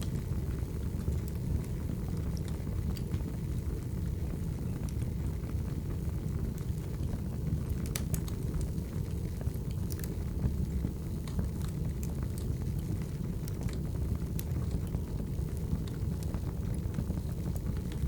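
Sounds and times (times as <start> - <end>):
fire crackles and pops: 0.0 - 18.0
firewood burning: 0.0 - 18.0.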